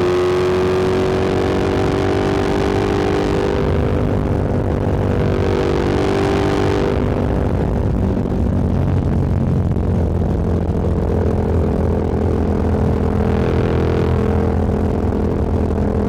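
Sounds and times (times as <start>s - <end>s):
motorcycle engine cruising: 0.0s - 16.0s
wind noise on microphone: 0.0s - 16.0s.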